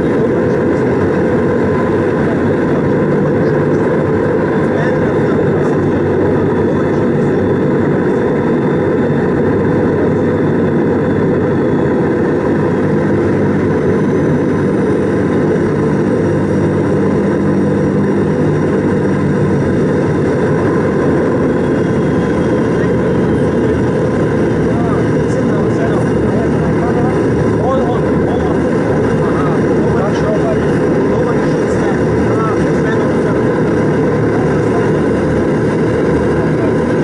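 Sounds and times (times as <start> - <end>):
faint high turbine whine: 0.0 - 37.0
propeller aircraft engines droning: 0.0 - 37.0.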